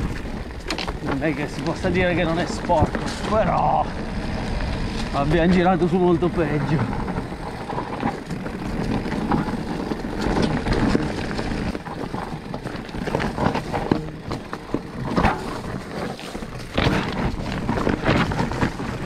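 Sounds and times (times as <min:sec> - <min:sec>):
bike knocking and rattling on rocks: 0:00.0 - 0:19.0
bike tyres rolling over leaves and stones: 0:00.0 - 0:19.0.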